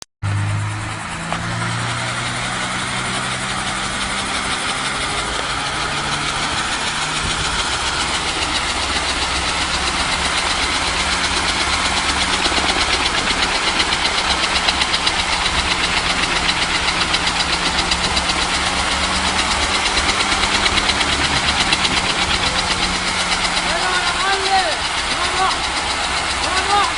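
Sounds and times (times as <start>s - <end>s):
helicopter engine pulsing: 0.0s - 26.9s.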